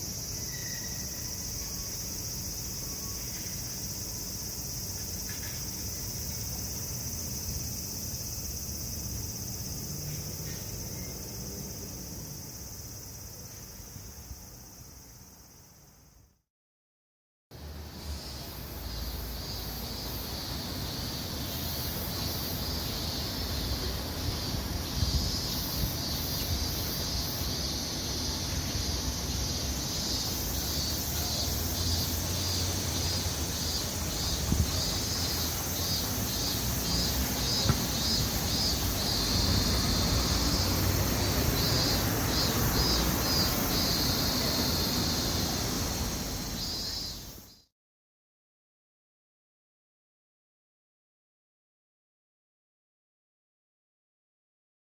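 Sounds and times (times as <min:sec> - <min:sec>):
cicadas buzzing in chorus: 0:00.0 - 0:16.4, 0:17.6 - 0:47.7.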